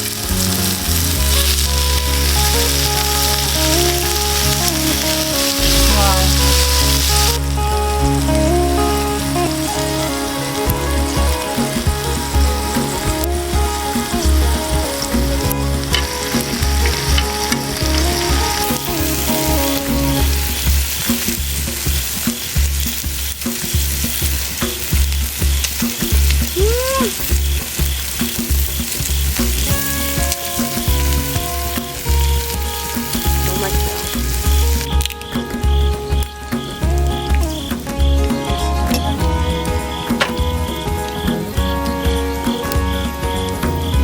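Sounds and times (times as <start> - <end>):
pork sizzling on grill pan: 0.0 - 44.0.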